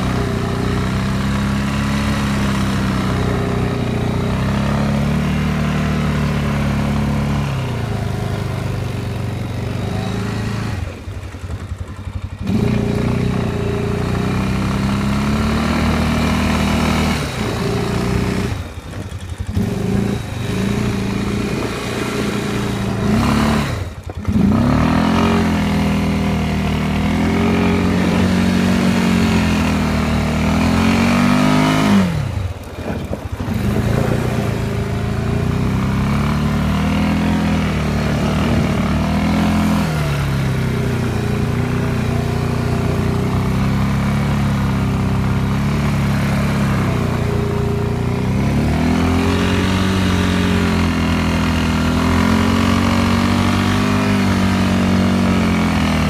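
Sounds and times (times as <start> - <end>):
small vehicle engine revving: 0.0 - 56.0.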